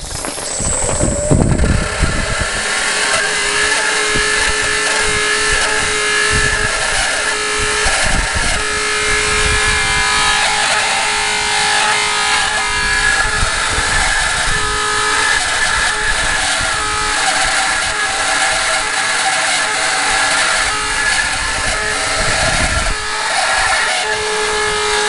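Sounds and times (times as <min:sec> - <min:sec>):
water pump whining and rattling: 0:00.0 - 0:25.0.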